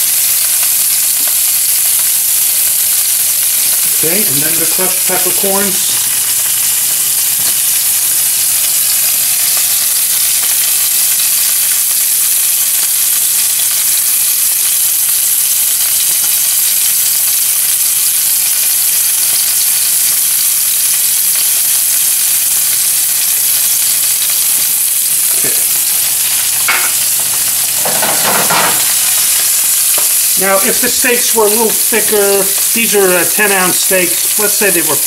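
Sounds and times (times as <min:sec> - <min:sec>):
steaks sizzling in a frying pan: 0:00.0 - 0:35.0.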